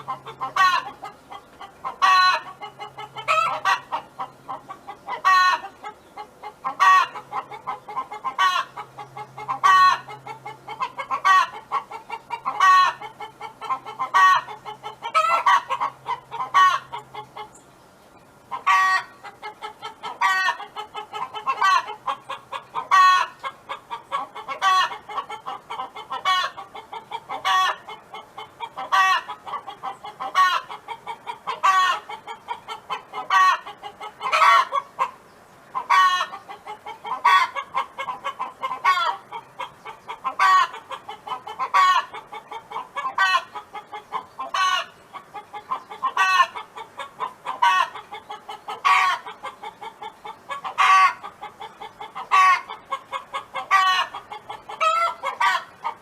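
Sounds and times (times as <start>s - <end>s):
hen cackling: 0.0s - 17.6s, 18.5s - 56.0s.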